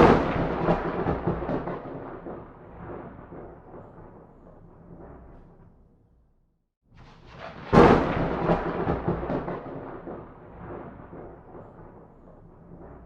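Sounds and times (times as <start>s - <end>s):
thunderclap: 0.0s - 5.8s, 7.0s - 13.0s.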